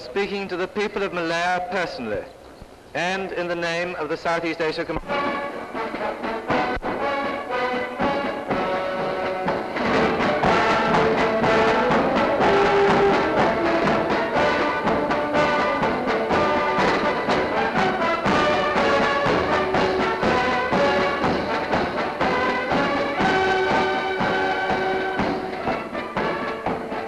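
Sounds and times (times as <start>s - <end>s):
military band playing a march: 0.0s - 2.1s, 3.4s - 27.0s
steady drumbeat: 3.0s - 27.0s.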